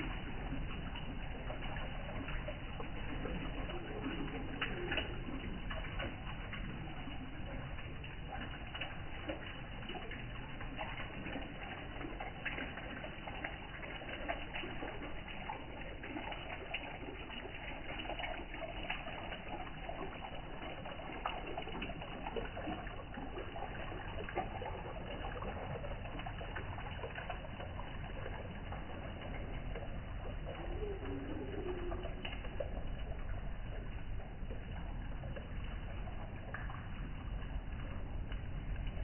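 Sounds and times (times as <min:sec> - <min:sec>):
waterfall trickling and splashing: 0:00.0 - 0:39.0.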